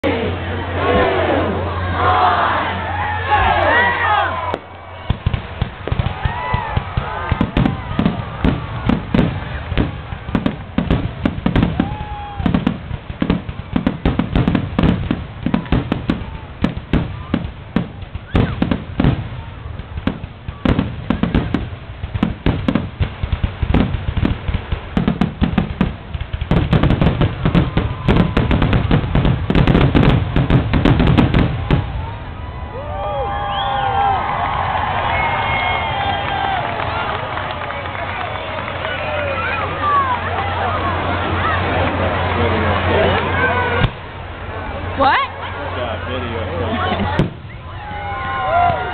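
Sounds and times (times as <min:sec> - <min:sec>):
fireworks bursting: 0:02.9 - 0:48.9.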